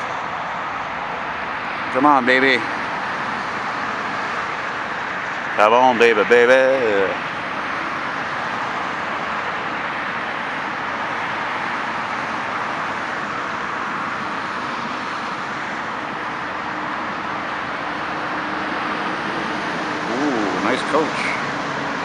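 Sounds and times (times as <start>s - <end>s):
highway traffic roar: 0.0s - 22.0s.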